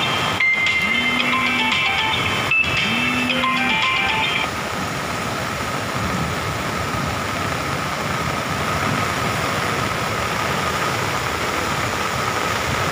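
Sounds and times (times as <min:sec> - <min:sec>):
floodwater rushing through dam gates: 0:00.0 - 0:12.9.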